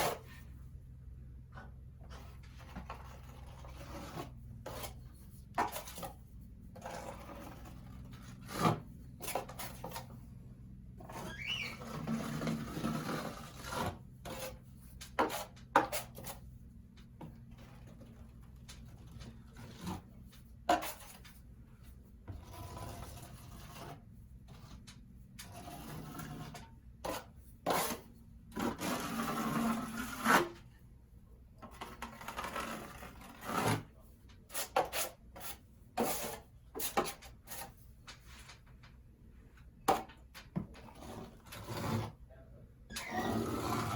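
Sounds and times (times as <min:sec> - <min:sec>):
hand tool scraping drywall: 0:00.0 - 0:00.5, 0:02.0 - 0:10.3, 0:11.0 - 0:30.8, 0:31.6 - 0:37.9, 0:39.9 - 0:43.9.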